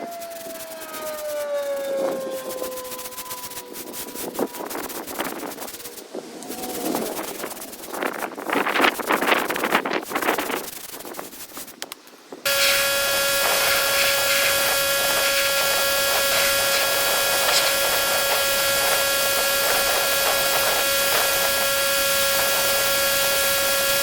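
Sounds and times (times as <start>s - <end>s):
pressure washer machine whine: 0.0s - 7.9s, 12.4s - 24.0s
hiss of spraying water: 0.0s - 11.8s, 12.4s - 24.0s.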